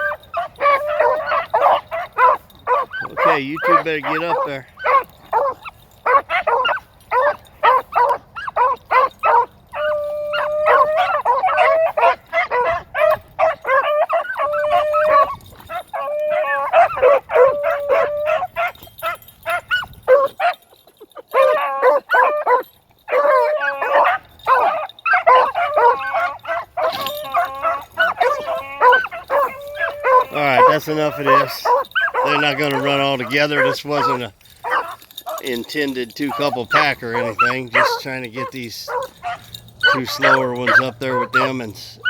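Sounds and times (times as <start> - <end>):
dogs baying and barking: 0.0 - 42.0.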